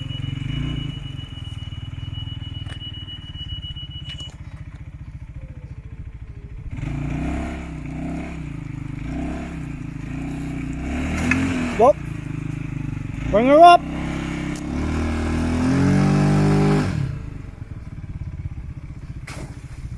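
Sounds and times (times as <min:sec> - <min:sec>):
utility vehicle engine revving: 0:00.0 - 0:19.9.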